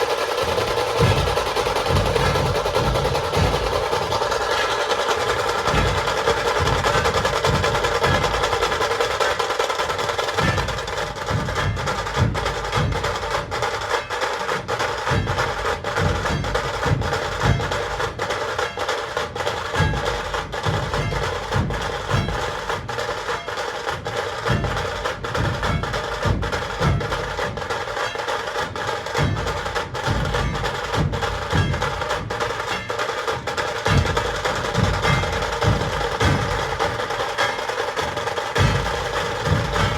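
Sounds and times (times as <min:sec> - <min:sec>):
deep drum beats: 0:00.0 - 0:39.9
fast drum rattle: 0:00.0 - 0:39.9.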